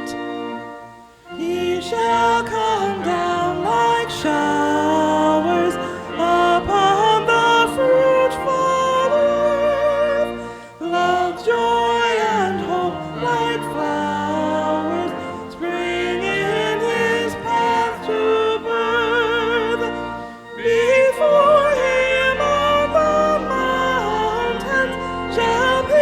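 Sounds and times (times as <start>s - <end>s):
instrumental accompaniment: 0.0s - 26.0s
person singing a hymn: 0.0s - 26.0s.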